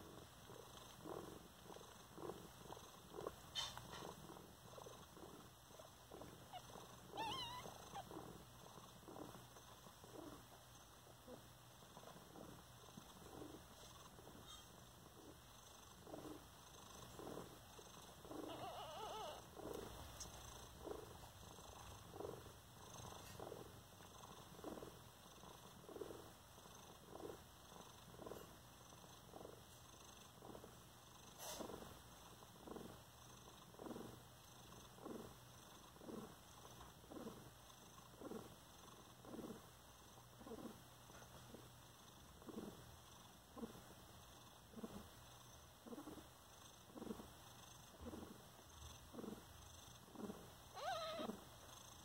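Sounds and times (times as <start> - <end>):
cat purring: 0.0 - 52.0.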